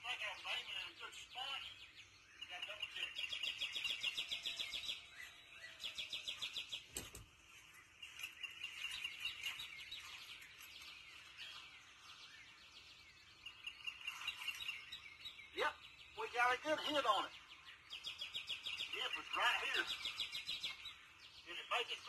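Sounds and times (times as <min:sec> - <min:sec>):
birds chirping in trills: 0:00.0 - 0:22.0.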